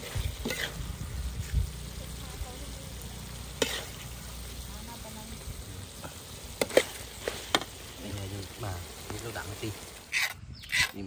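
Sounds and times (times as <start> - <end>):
food sizzling in a pan: 0.0 - 10.3.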